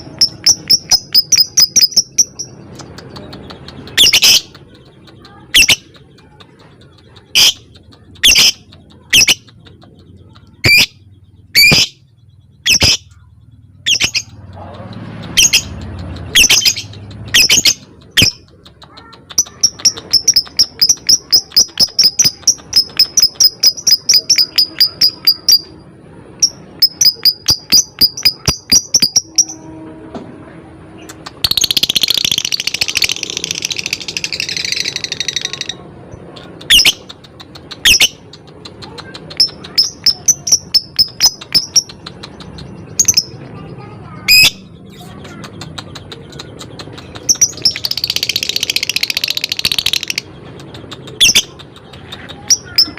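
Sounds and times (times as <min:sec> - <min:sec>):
harsh chattering trill: 0:00.0 - 0:29.7, 0:30.4 - 0:52.9
lovebird chirping: 0:00.0 - 0:29.7, 0:31.0 - 0:52.9.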